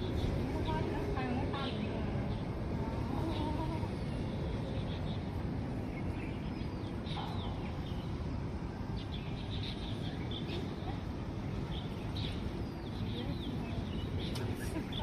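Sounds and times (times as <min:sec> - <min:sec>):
low outdoor rumble and hiss: 0:00.0 - 0:15.0.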